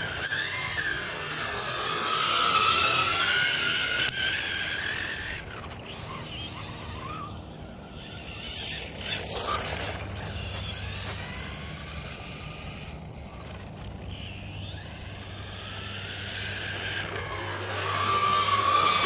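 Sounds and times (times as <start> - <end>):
toy car motor whining: 0.0 - 19.0.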